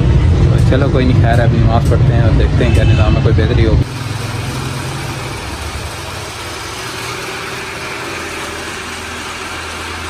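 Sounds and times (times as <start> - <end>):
machine humming and hissing: 0.0 - 10.0.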